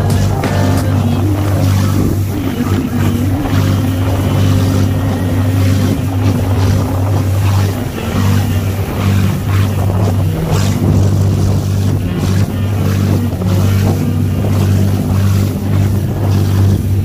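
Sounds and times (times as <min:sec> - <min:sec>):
motorboat engine drone: 0:00.0 - 0:17.0
water splashing off hull: 0:00.0 - 0:17.0.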